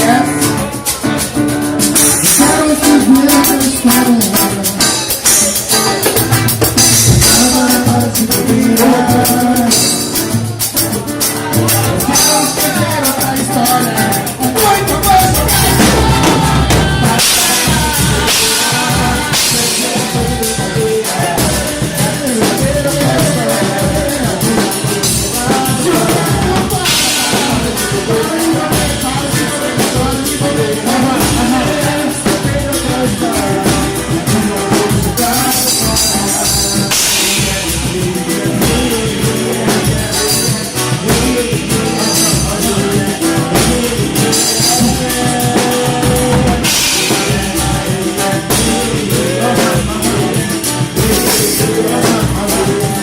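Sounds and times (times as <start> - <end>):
person singing: 0.0 - 53.0
upbeat band music: 0.0 - 53.0.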